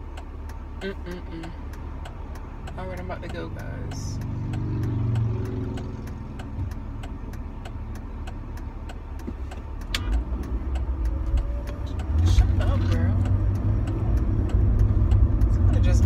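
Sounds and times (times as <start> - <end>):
car engine accelerating: 0.0 - 16.0
faint regular ticking: 0.0 - 16.0.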